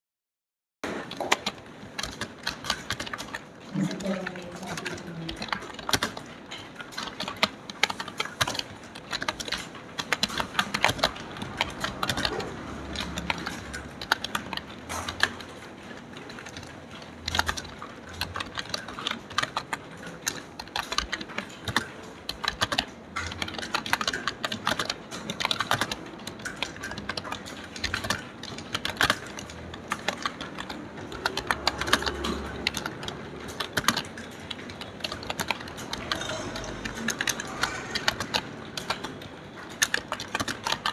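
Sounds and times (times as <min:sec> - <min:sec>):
fast typing on a keyboard: 0:00.9 - 0:40.9.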